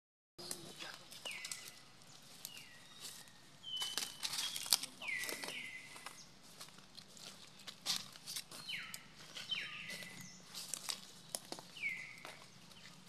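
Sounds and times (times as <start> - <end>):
dry leaves crackling: 0.4 - 13.0.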